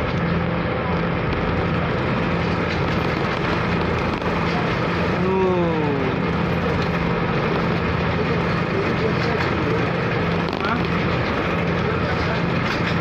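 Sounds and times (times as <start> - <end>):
ferry engine drone: 0.0 - 13.0
strong wind: 0.0 - 13.0
waves: 0.0 - 13.0.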